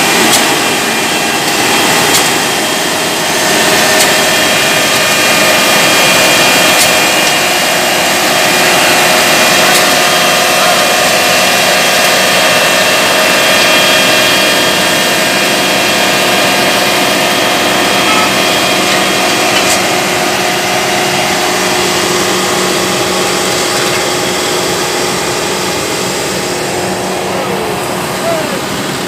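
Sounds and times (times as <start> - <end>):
diesel engine machinery drone: 0.0 - 29.0
machinery whining: 0.0 - 29.0.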